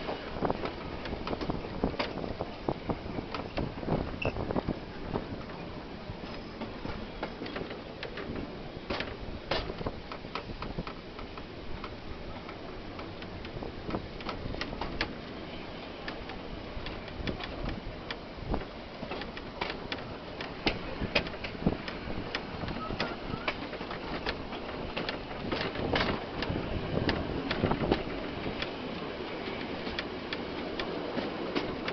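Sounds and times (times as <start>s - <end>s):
train carriage rumbling on track: 0.0s - 31.9s
wheels clicking and knocking: 0.0s - 31.9s.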